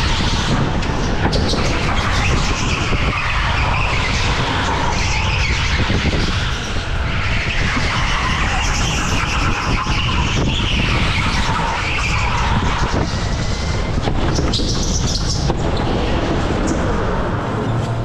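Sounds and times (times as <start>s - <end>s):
go-kart tyres squealing: 0.0s - 18.0s
low rumble: 0.0s - 18.0s.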